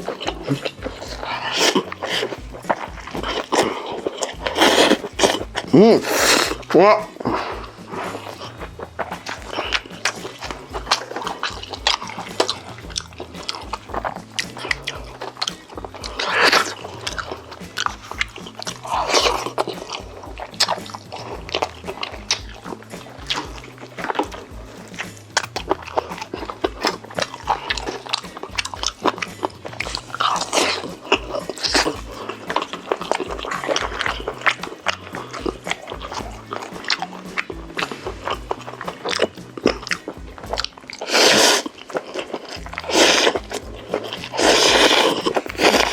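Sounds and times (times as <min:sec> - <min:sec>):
background music: 0:00.0 - 0:45.9
biting and chewing food: 0:00.0 - 0:45.9.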